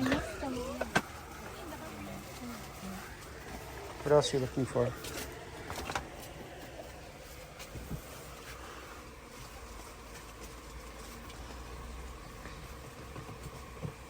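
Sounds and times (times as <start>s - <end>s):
shop interior hum: 0.0s - 14.0s.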